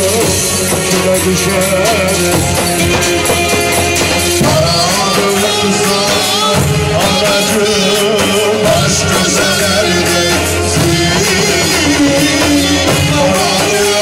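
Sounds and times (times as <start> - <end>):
loud dance music: 0.0 - 14.0.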